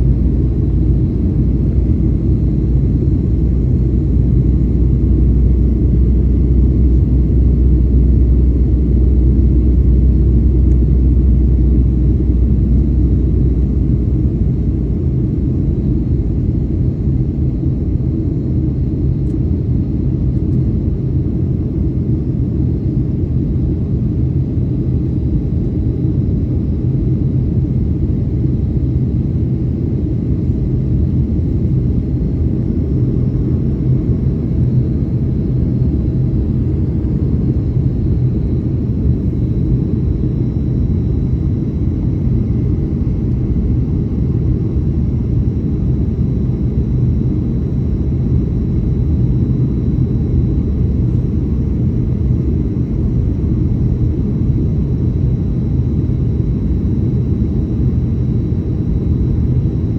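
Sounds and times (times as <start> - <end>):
aircraft cabin engine rumble: 0.0 - 59.9
faint high whine: 0.0 - 59.9.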